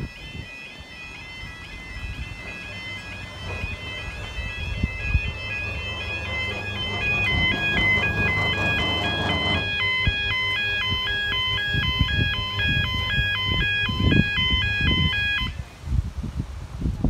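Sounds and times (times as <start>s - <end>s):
level crossing warning alarm: 0.0s - 15.6s
wind buffeting the microphone: 0.0s - 17.0s.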